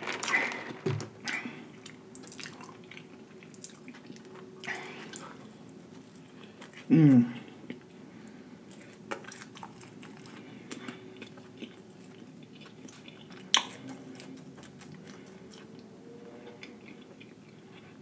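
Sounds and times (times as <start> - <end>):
man chewing food: 0.0 - 18.0.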